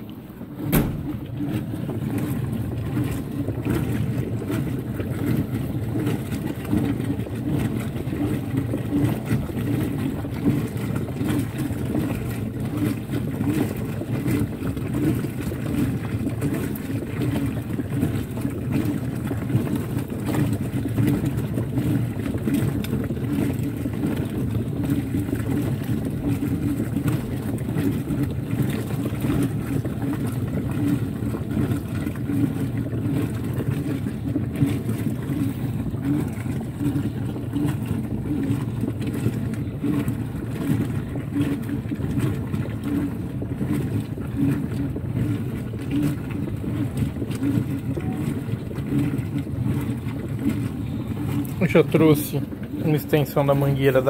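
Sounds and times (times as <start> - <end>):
washing machine motor hum: 0.0 - 54.0
wet clothes and water churning: 0.0 - 54.0.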